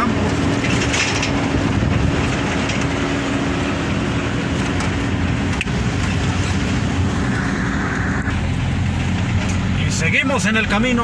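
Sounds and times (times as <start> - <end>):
tyre and road noise: 0.0 - 11.0
vehicle engine drone: 0.0 - 11.0.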